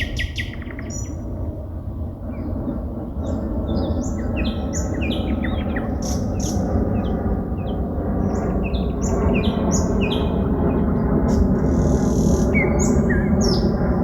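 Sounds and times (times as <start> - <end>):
songbirds singing: 0.0 - 1.3, 2.3 - 14.0
steady low rumble: 0.0 - 14.0.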